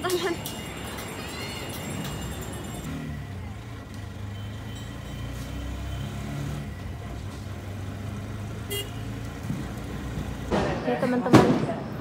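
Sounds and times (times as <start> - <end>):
auto-rickshaw engine running: 0.0 - 10.5.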